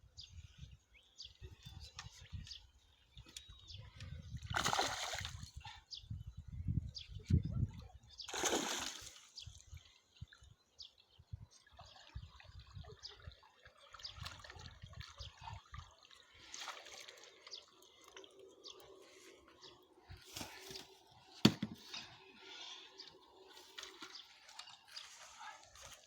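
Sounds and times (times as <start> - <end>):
brook water trickling: 0.2 - 5.9, 7.7 - 26.0.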